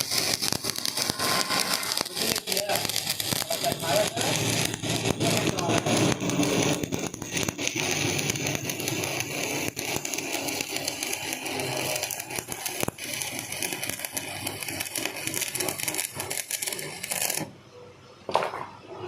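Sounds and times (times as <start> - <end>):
welding arc crackling: 0.0 - 17.6.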